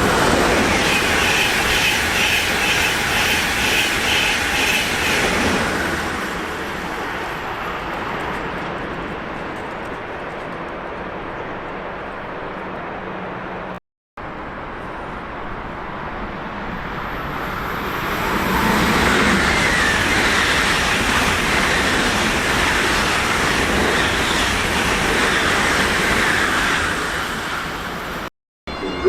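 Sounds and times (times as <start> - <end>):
train rolling: 0.0 - 13.7, 14.6 - 29.0.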